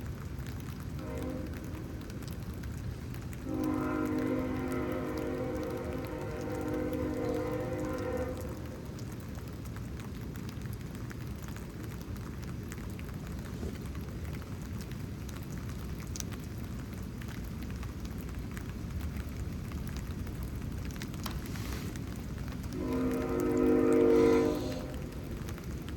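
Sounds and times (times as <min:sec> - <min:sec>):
raindrops ticking: 0:00.0 - 0:25.9
steady rain falling: 0:00.0 - 0:25.9.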